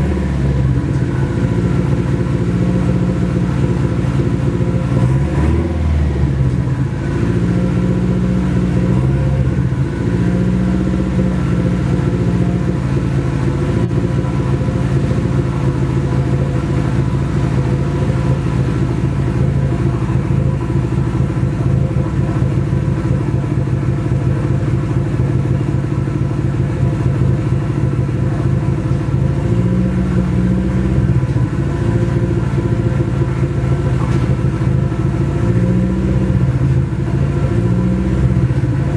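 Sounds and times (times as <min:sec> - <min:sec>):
turbocharged engine running: 0:00.0 - 0:38.9.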